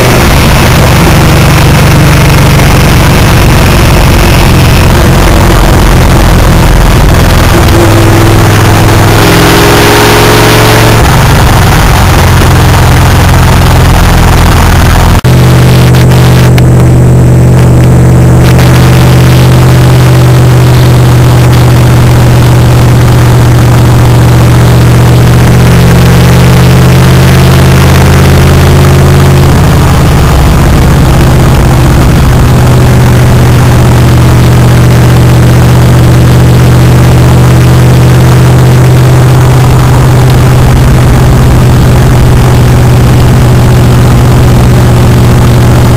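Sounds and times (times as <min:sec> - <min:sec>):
pickup engine running: 0:00.0 - 0:45.9
road noise: 0:00.0 - 0:45.9.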